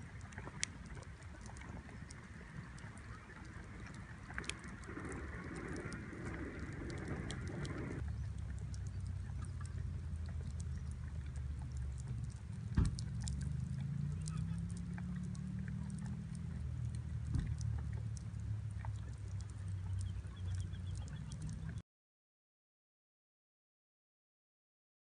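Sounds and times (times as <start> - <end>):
campfire crackling: 0.0 - 21.8
steady low rumble: 0.0 - 21.8.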